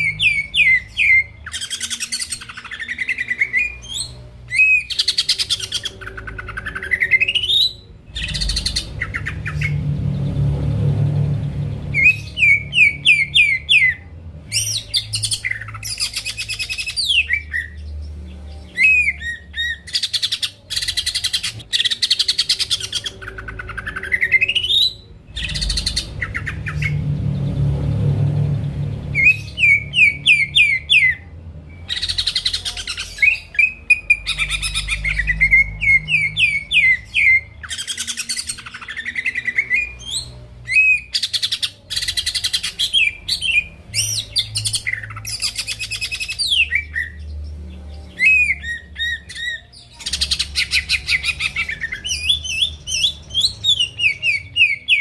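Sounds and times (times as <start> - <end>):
bird singing whistles and trills: 0.0 - 10.6, 11.6 - 27.7, 28.9 - 55.0.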